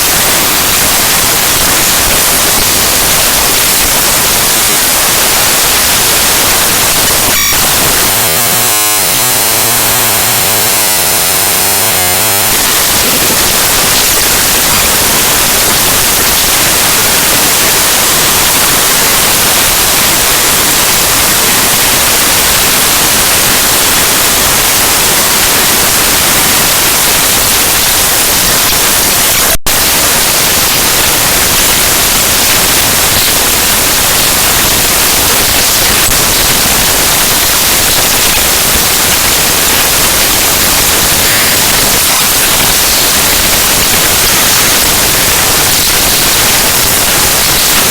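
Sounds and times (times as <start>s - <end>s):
harsh digital static: 0.0s - 47.9s.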